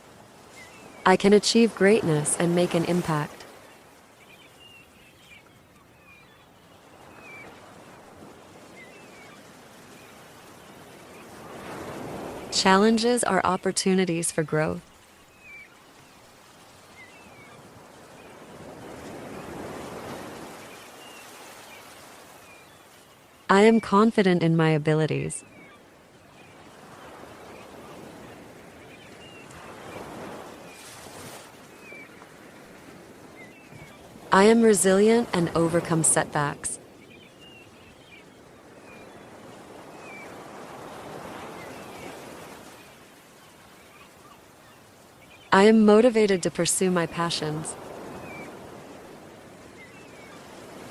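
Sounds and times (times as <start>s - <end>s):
ocean surf washing in: 0.0s - 4.4s, 6.9s - 25.4s, 26.4s - 37.1s, 38.5s - 50.9s.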